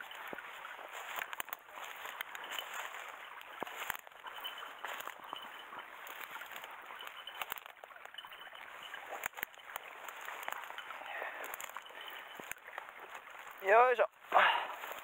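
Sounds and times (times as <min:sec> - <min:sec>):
footsteps and gear clicking: 0:00.0 - 0:13.8, 0:14.8 - 0:15.0
dry grass and brush rustling: 0:00.0 - 0:15.0.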